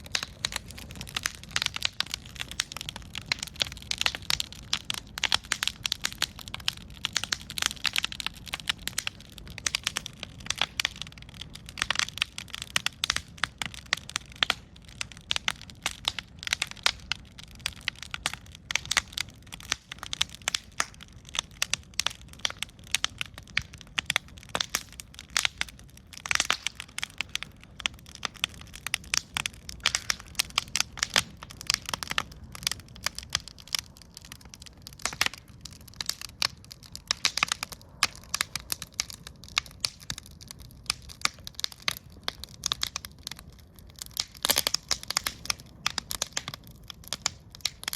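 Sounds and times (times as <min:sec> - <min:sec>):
low rumble of burning: 0:00.0 - 0:47.9
wood fire crackling: 0:00.0 - 0:47.9.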